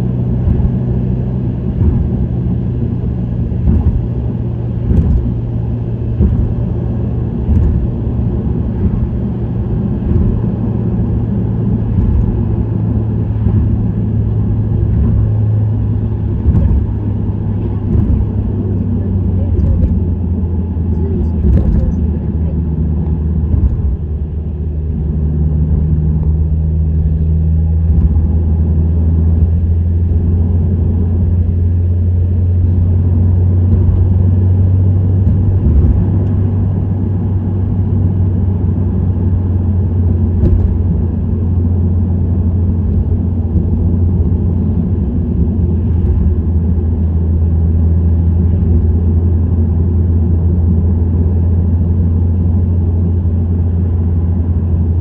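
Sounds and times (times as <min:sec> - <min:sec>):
low exhaust drone: 0:00.0 - 0:55.0
tyre and road noise: 0:00.0 - 0:55.0.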